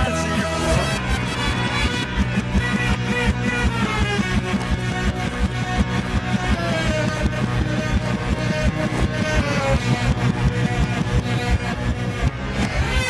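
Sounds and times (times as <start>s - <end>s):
rock song played backwards: 0.0s - 13.0s.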